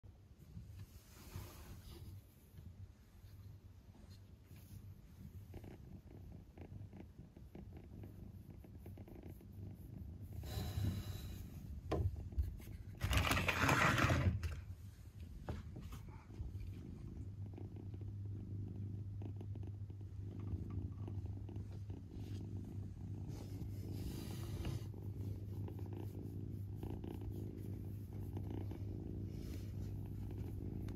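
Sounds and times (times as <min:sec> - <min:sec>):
kitten purring: 0:00.5 - 0:14.5, 0:15.3 - 0:30.9.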